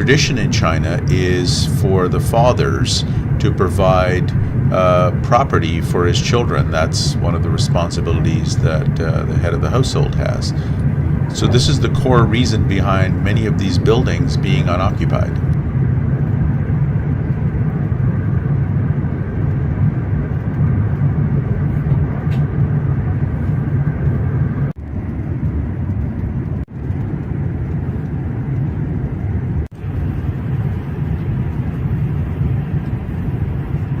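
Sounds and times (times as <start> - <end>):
train rumble inside cabin: 0.0 - 34.0.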